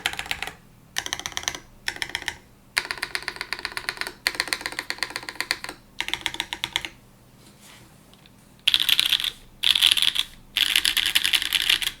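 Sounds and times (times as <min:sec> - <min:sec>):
mechanical keyboard typing: 0:00.0 - 0:07.0, 0:08.6 - 0:12.0.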